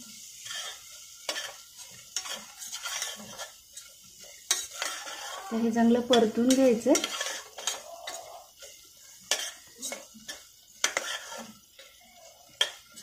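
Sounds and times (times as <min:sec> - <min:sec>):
faint sizzle: 0:00.0 - 0:13.0
spatula scraping steel pot: 0:00.3 - 0:13.0.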